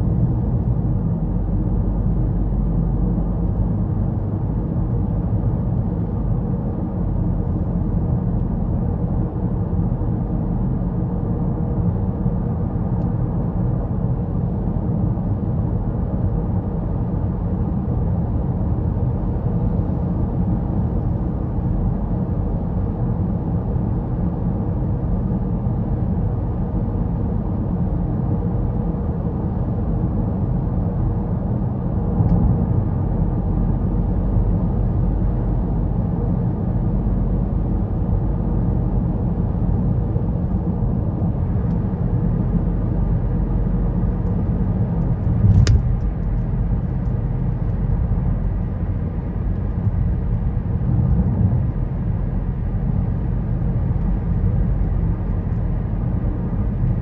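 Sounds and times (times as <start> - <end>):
car interior road rumble: 0.0 - 27.0, 28.5 - 57.0.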